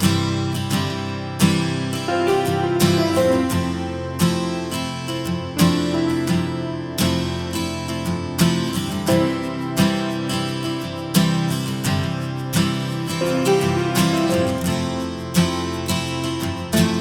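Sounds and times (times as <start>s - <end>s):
strummed acoustic guitar music: 0.0s - 17.0s.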